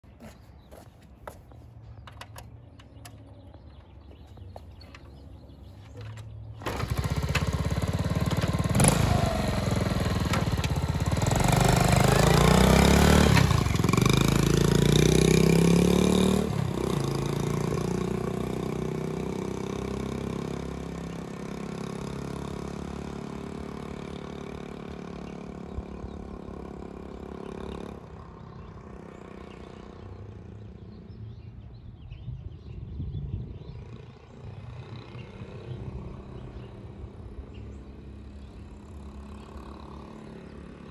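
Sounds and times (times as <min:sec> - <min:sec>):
small motorbike engine starting and revving: 0:04.4 - 0:31.1, 0:33.9 - 0:40.9.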